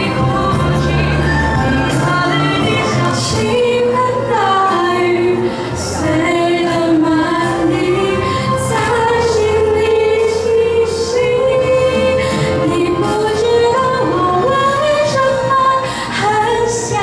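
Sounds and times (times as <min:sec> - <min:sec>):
girls singing: 0:00.0 - 0:17.0
instrumental accompaniment: 0:00.0 - 0:17.0.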